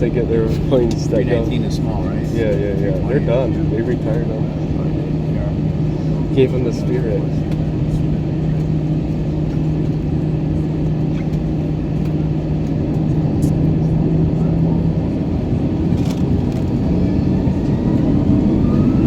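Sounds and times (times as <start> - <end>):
jet engines humming in cabin: 0.0 - 19.0.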